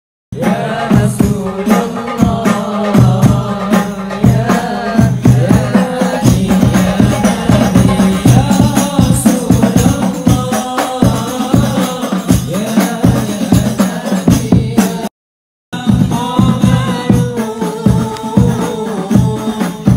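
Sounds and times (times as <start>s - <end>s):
hand drums beating: 0.4s - 15.1s, 15.8s - 19.9s
person singing through a microphone: 0.4s - 15.1s, 15.8s - 19.9s.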